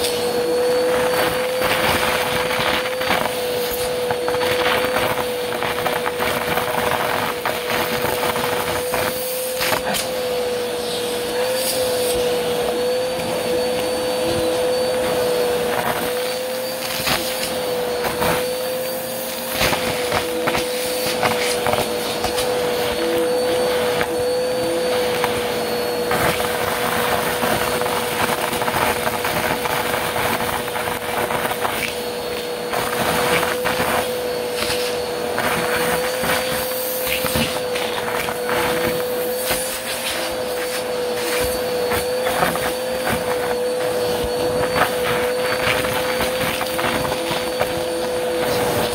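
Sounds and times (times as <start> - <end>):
vacuum cleaner motor running: 0.0 - 48.9.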